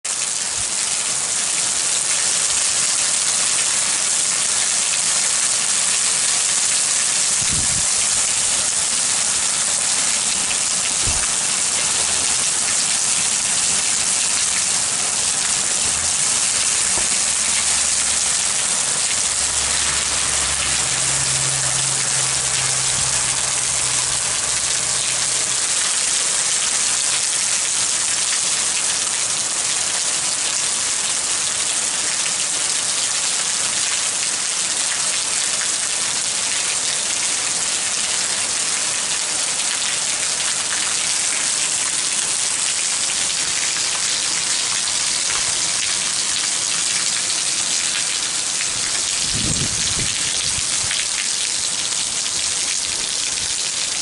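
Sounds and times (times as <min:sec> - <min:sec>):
heavy rain on grass and trees: 0:00.0 - 0:54.0.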